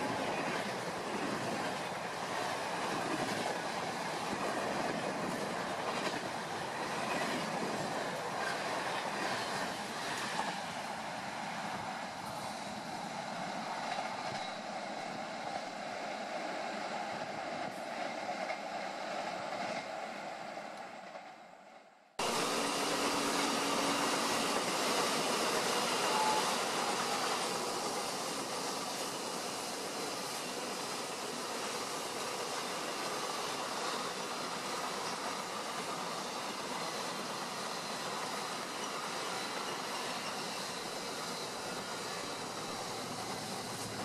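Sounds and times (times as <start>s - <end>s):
freight train wagons passing: 0.0s - 44.0s
train rolling away: 0.0s - 44.0s.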